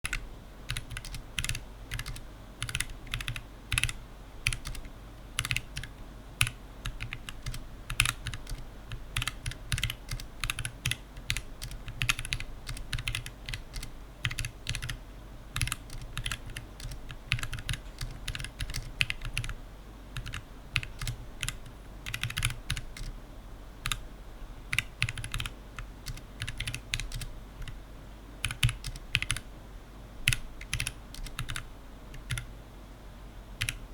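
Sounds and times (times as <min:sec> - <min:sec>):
keyboard typing: 0:00.0 - 0:15.0, 0:15.6 - 0:19.6, 0:20.2 - 0:23.2, 0:23.8 - 0:24.0, 0:24.7 - 0:27.8, 0:28.4 - 0:29.5, 0:30.3 - 0:31.6, 0:32.2 - 0:32.5, 0:33.6 - 0:33.8.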